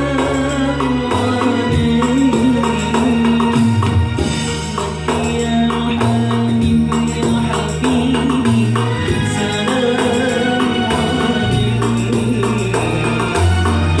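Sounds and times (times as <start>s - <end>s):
man singing into microphone: 0.0s - 14.0s
sustained low bass notes: 0.0s - 14.0s.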